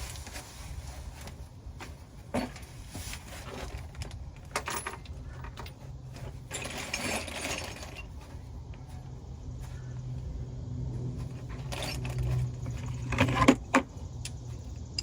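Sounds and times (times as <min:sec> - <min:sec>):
metal tools clinking and rattling: 0:00.0 - 0:09.0, 0:11.2 - 0:15.0.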